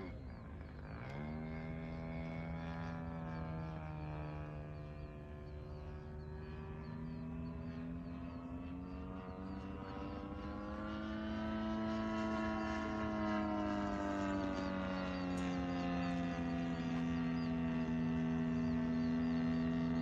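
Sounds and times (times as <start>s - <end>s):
model plane engine overhead: 0.0s - 20.0s.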